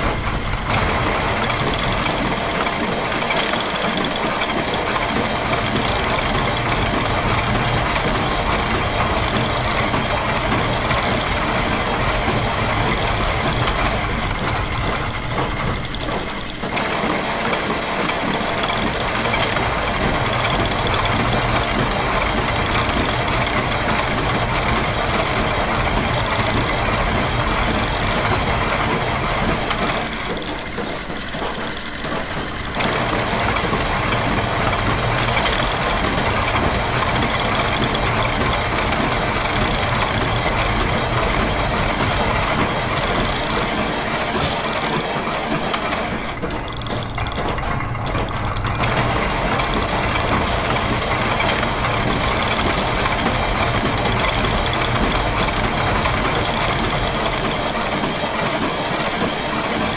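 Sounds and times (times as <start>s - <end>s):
factory machinery churning: 0.0s - 59.9s.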